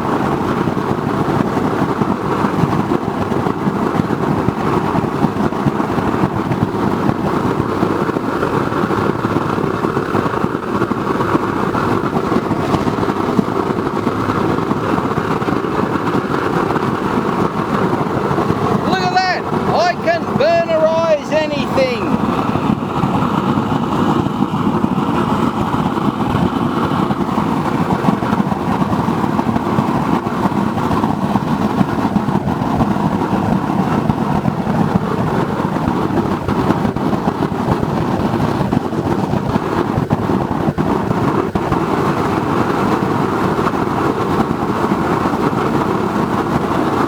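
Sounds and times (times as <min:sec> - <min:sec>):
oil burner flame roaring: 0:00.0 - 0:47.0.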